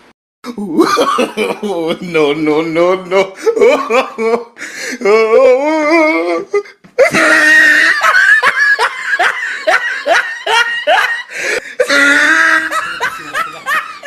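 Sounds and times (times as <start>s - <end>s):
person laughing loudly: 0.5s - 2.2s, 3.1s - 14.0s.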